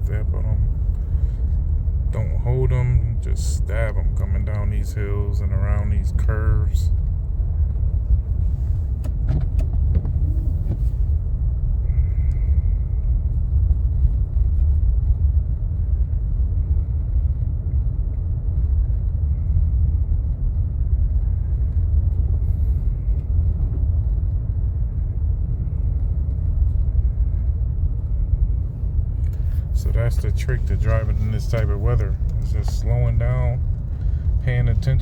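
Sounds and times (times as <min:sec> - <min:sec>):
car driving rumble: 0:00.0 - 0:35.0.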